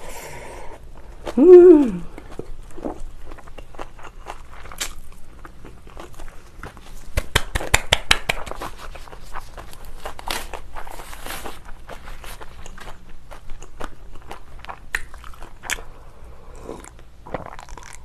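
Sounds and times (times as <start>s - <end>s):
wet chewing and crunching: 2.1s - 7.3s, 8.4s - 18.0s.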